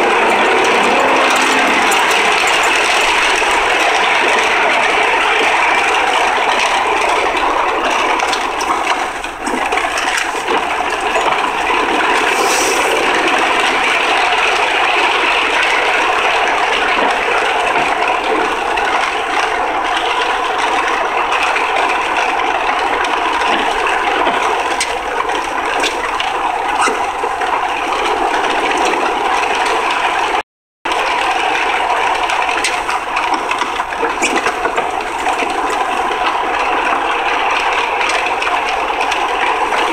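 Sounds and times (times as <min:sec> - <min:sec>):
road and wind noise in car: 0:00.0 - 0:39.9.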